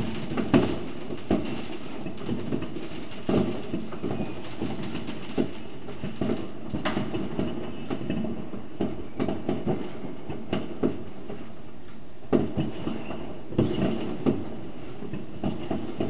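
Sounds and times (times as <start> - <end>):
sharp firework bangs: 0.0 - 11.0, 12.3 - 16.0
distant fireworks rumble: 0.0 - 16.0.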